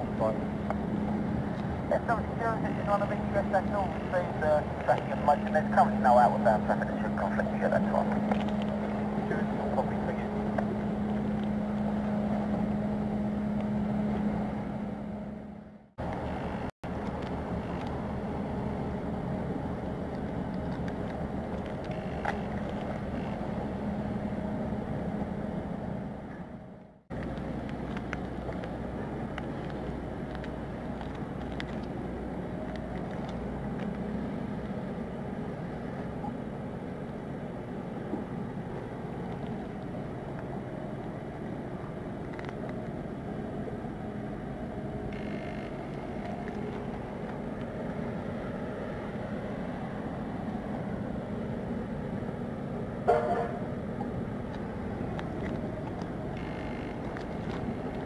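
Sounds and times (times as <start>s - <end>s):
ship diesel engines droning: 0.0s - 58.0s.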